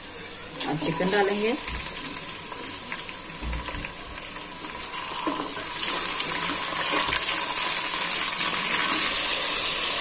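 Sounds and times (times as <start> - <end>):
chicken sizzling in hot oil: 0.1 - 10.0.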